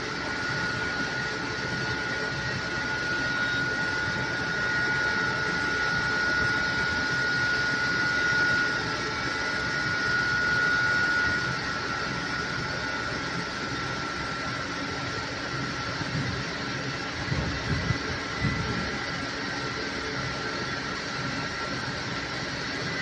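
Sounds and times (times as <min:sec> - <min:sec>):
high whine: 0:00.0 - 0:23.0.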